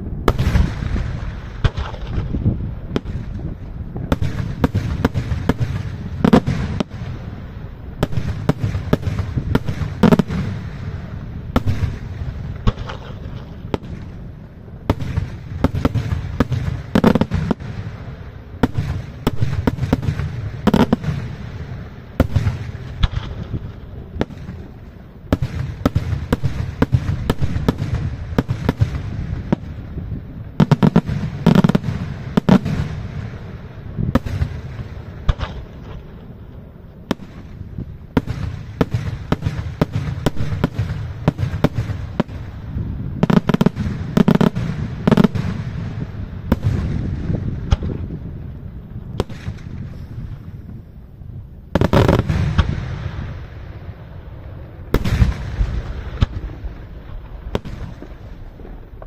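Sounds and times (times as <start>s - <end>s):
fireworks bangs: 0.0s - 51.0s, 51.7s - 59.0s.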